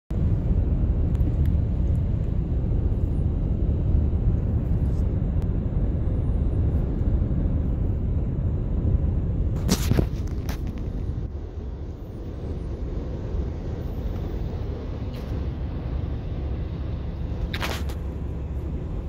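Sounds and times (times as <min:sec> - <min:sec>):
car road and engine rumble: 0:00.1 - 0:19.0.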